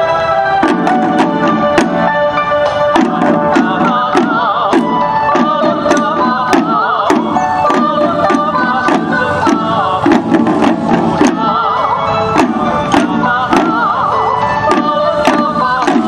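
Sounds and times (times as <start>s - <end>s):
wavering melody line: 0.0s - 15.9s
music with sustained chords: 0.0s - 16.0s
waist drums beating: 0.5s - 16.0s.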